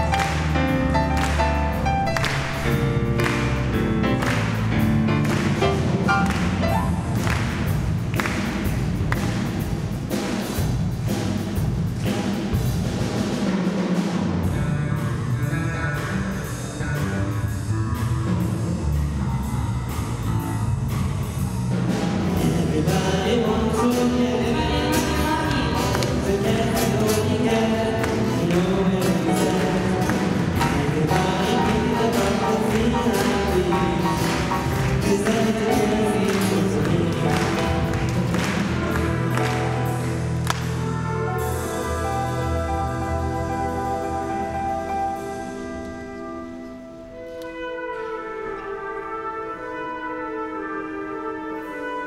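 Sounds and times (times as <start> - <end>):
orchestra playing: 0.0 - 52.0.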